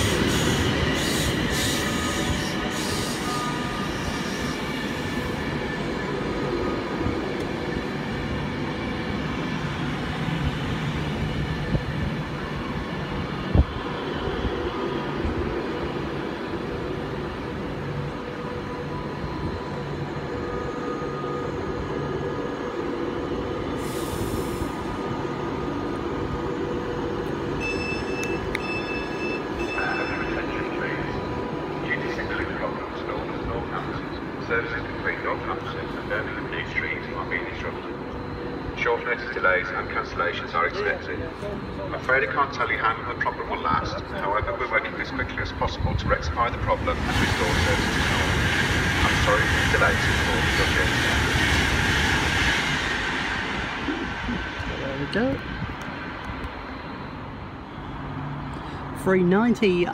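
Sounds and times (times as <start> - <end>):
standing train humming: 0.0 - 59.9
train rattling past: 0.0 - 59.9.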